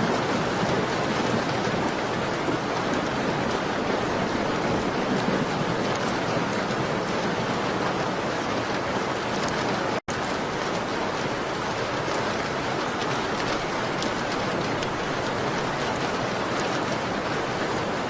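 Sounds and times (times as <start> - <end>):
rain on a window pane: 0.0 - 18.0.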